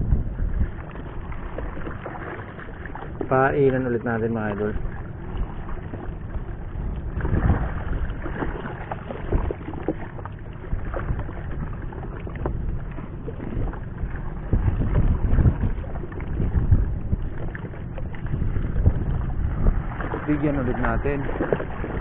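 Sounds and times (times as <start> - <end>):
water sloshing against boat hull: 0.0 - 22.0
wind rumble on microphone: 0.0 - 22.0.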